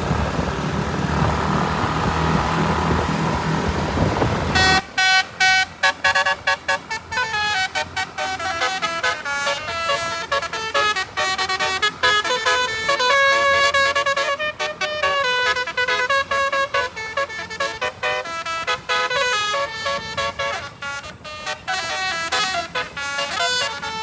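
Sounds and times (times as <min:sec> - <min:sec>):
bus multi-note air horn melody: 0:00.0 - 0:24.0
traffic noise: 0:00.0 - 0:24.0.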